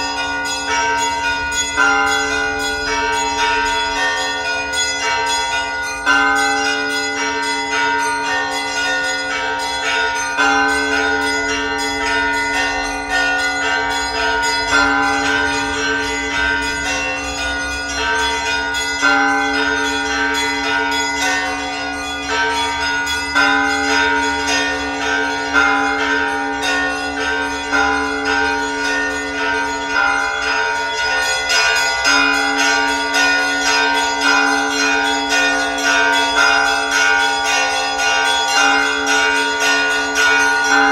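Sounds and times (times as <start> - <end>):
deep bell strikes: 0.0 - 40.9
small church bells pealing: 0.0 - 40.9.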